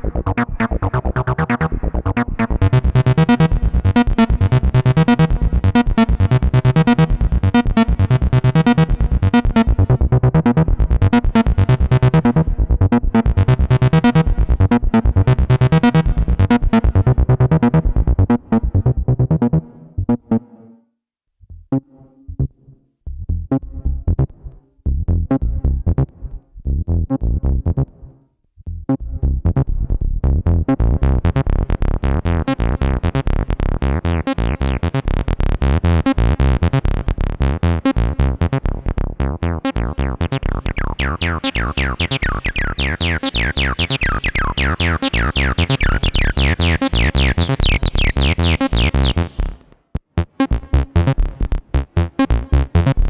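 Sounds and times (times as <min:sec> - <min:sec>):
acid bass synthesizer sequence: 0:00.0 - 0:20.3, 0:21.5 - 0:28.1, 0:28.7 - 0:53.0.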